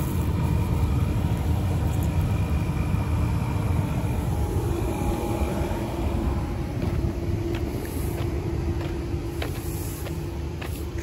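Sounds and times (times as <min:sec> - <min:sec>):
farm machinery droning: 0:00.0 - 0:11.0.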